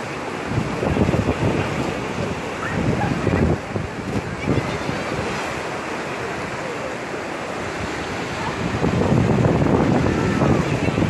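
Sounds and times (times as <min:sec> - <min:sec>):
wind buffeting microphone: 0:00.0 - 0:05.8, 0:07.6 - 0:11.0
surf washing over rocks: 0:00.0 - 0:11.0.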